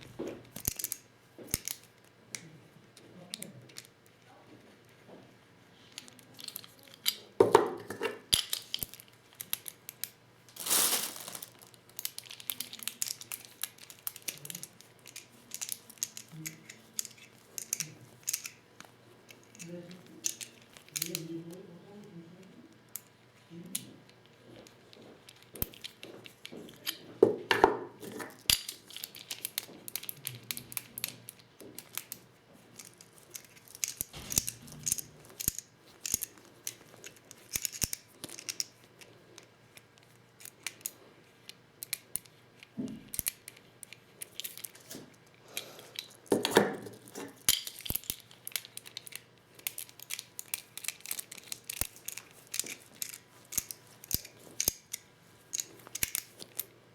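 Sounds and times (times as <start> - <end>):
small clicks and rattles: 0.2 - 5.1, 5.8 - 7.4, 8.0 - 22.0, 22.7 - 27.2, 28.0 - 56.8.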